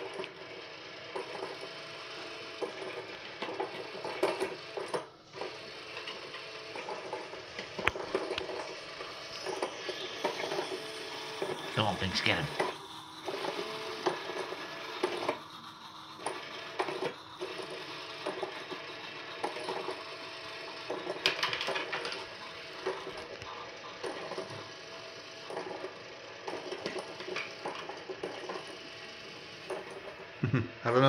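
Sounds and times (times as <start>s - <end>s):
toy motor and gears whirring: 0.0s - 31.0s.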